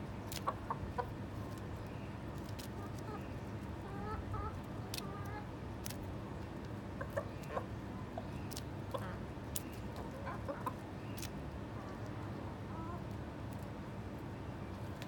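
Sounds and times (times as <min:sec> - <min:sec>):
chickens clucking: 0:00.2 - 0:13.2.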